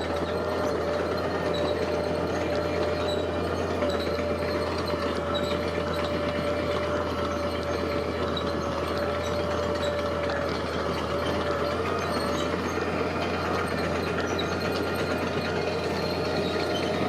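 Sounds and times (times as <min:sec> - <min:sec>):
constant whine: 0:00.0 - 0:17.0
diesel machinery running: 0:00.0 - 0:17.0.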